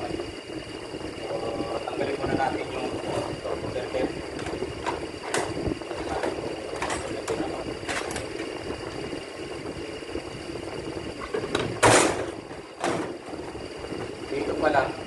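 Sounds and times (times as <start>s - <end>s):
steady shop hum: 0.0s - 15.0s.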